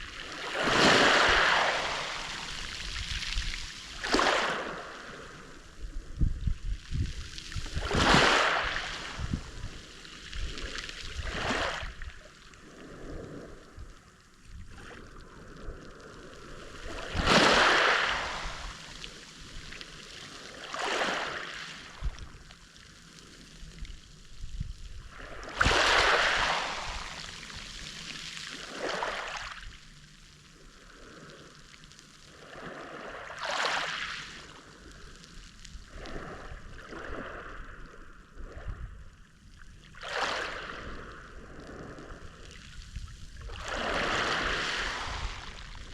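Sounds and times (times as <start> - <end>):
sea waves washing onto shore: 0.0 - 30.2, 32.2 - 38.0, 40.0 - 45.9.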